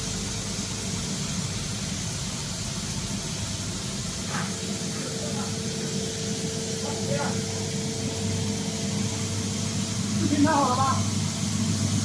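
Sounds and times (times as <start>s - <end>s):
machining center humming and hissing: 0.0s - 12.0s.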